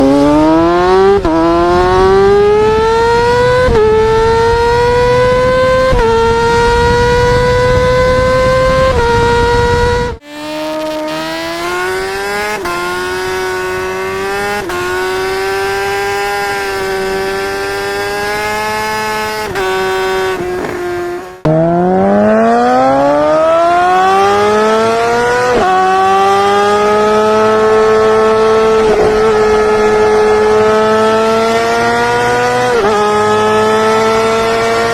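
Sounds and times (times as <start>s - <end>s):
motorcycle engine revving high: 0.0s - 34.9s.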